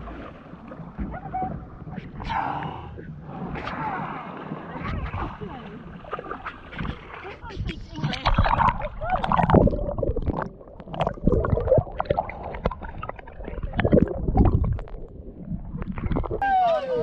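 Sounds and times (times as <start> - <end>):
knocks and splashes: 0.0 - 2.6, 3.2 - 16.4
water sloshing against boat hull: 0.0 - 16.4.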